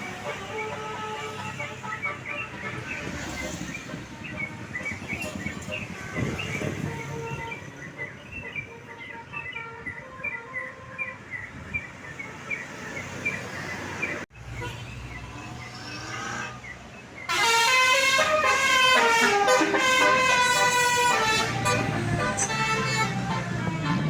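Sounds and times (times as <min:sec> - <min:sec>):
bus multi-tone horn tune: 0:00.0 - 0:12.7, 0:15.9 - 0:16.7, 0:17.3 - 0:24.0
road noise: 0:00.0 - 0:24.0.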